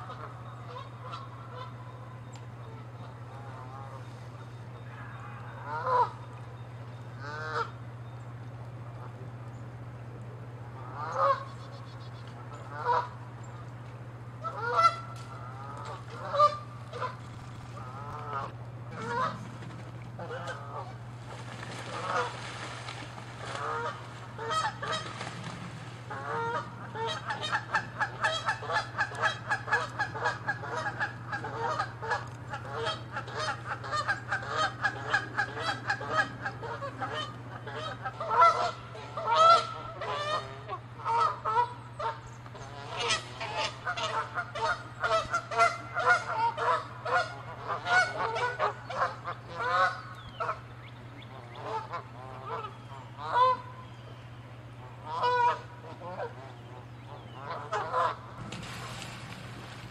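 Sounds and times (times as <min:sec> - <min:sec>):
geese honking: 0:00.0 - 0:07.8, 0:10.6 - 0:13.3, 0:14.4 - 0:50.6, 0:51.2 - 0:53.9, 0:54.6 - 0:59.9.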